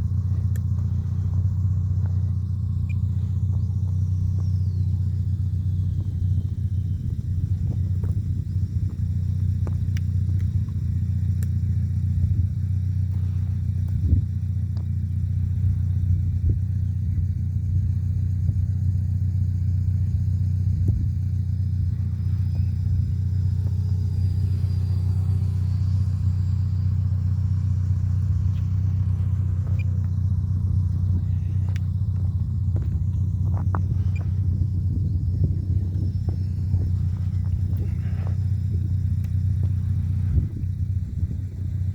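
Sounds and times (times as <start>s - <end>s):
rc jet whine: 0.0s - 41.9s
steady low rumble: 0.0s - 41.9s.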